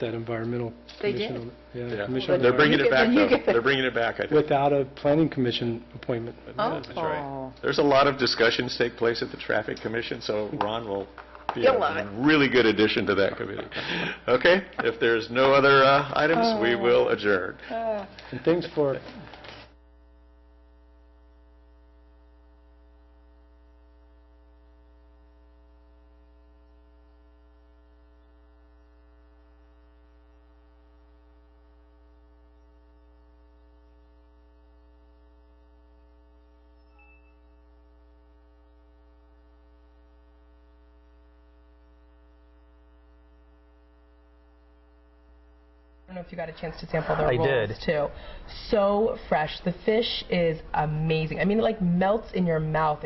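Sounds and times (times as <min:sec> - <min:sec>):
faint mains hum: 0:00.0 - 0:53.0.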